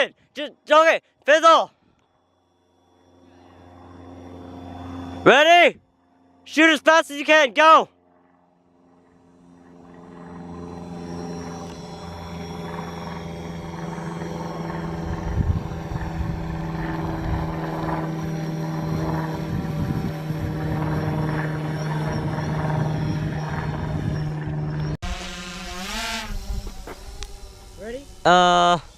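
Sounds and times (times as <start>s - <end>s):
drone propellers humming: 1.8s - 28.9s.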